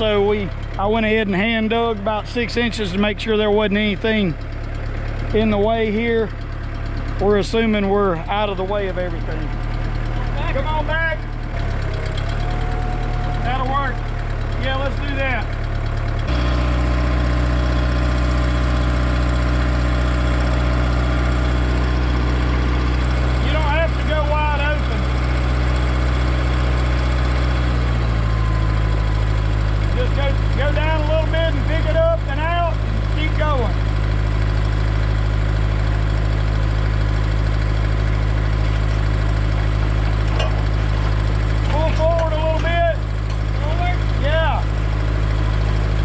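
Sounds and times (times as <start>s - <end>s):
backhoe digging: 0.0s - 46.0s
diesel tractor engine running: 0.0s - 46.0s.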